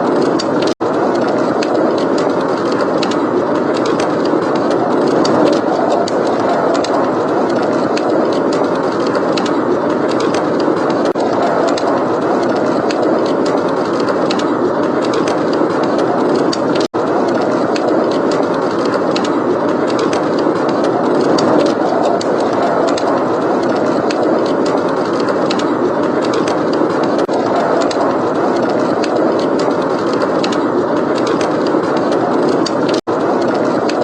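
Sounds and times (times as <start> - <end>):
blizzard wind: 0.0 - 34.0
fireplace crackling: 0.0 - 34.0.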